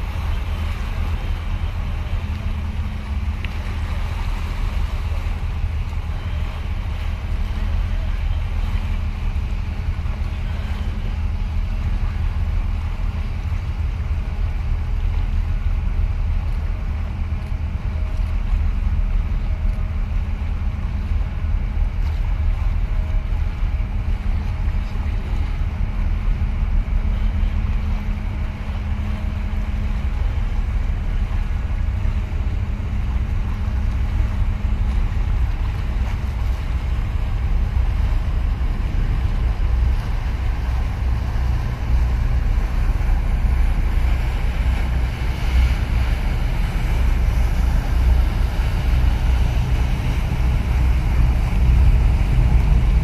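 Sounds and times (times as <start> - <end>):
ship engines rumbling: 0.0 - 53.0
steady hum: 0.0 - 53.0
water lapping: 0.0 - 53.0
wind: 0.0 - 53.0.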